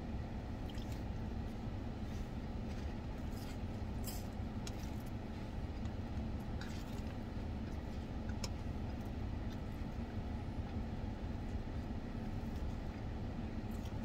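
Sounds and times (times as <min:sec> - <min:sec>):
car idling from inside cabin: 0:00.0 - 0:14.0.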